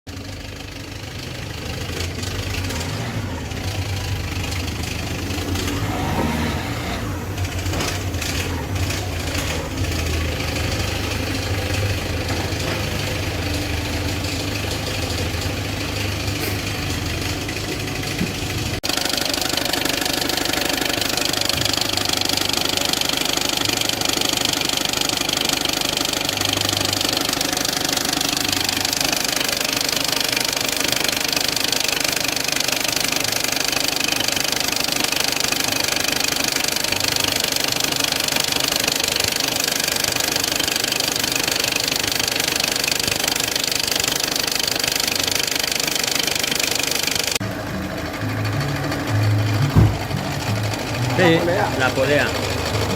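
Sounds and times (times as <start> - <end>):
diesel engine running noisily: 0.1 - 52.9.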